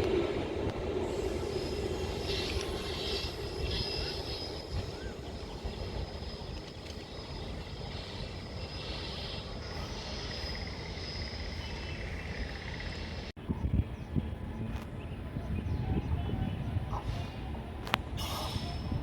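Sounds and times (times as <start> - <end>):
passing train rumble: 0.0 - 19.0.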